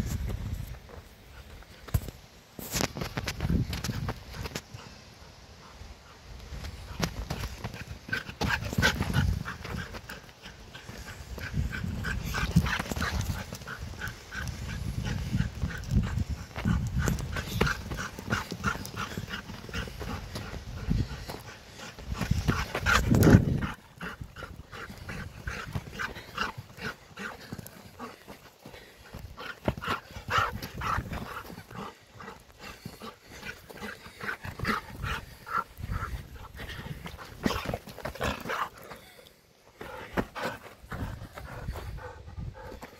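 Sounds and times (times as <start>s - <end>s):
dog panting: 3.8s - 42.9s.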